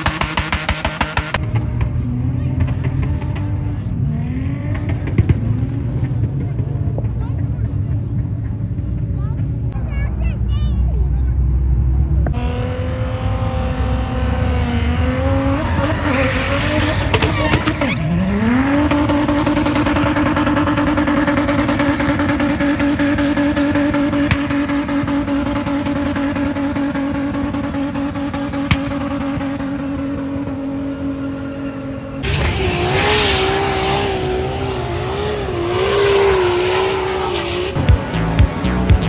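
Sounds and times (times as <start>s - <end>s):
car engine revving: 0.0s - 9.9s, 11.0s - 39.0s
engine with wavering pitch: 0.0s - 39.0s.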